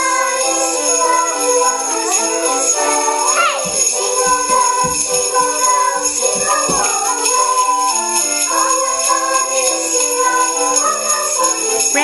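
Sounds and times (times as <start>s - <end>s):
sleigh bells jingling: 0.0s - 12.0s.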